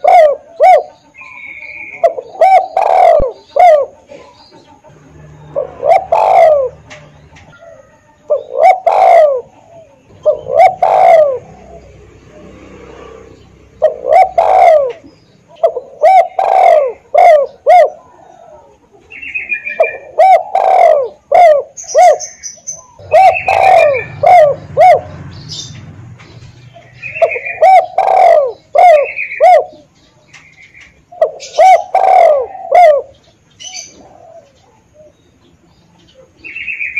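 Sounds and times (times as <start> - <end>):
dove cooing: 0.0 - 25.9, 26.6 - 30.0, 31.1 - 35.4.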